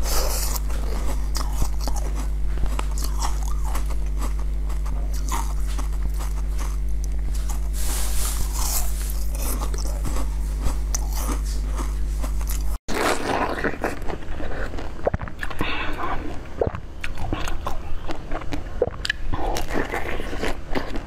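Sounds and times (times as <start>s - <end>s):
crunchy bites: 0.0s - 7.8s, 8.4s - 21.0s
chewing soft food: 0.0s - 21.0s
low hum: 0.0s - 21.0s.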